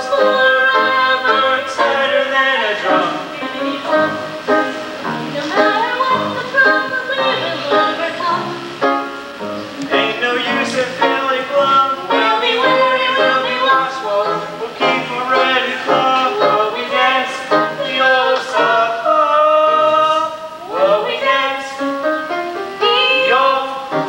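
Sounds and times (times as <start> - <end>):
instrumental accompaniment: 0.0 - 24.0
person singing: 0.0 - 24.0.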